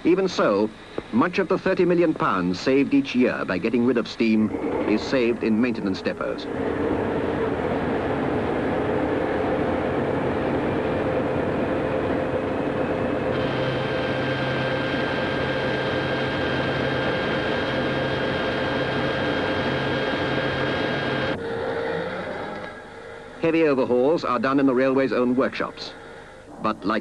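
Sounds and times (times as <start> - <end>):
high whine: 0.0 - 27.0
locomotive machinery drone: 0.0 - 27.0.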